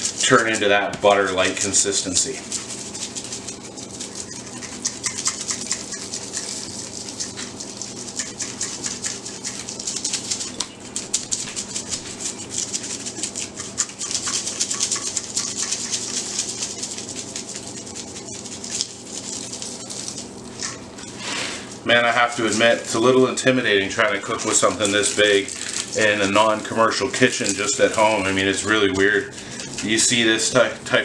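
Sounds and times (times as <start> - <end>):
seasoning rattling in a shaker: 0.0 - 31.0.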